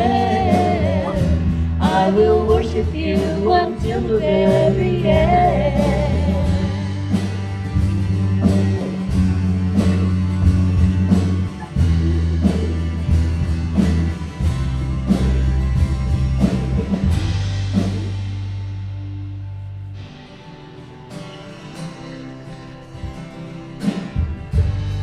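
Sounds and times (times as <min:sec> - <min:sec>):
electric bass long low notes: 0:00.0 - 0:21.1, 0:24.2 - 0:25.0
instrumental rock band music: 0:00.0 - 0:25.0.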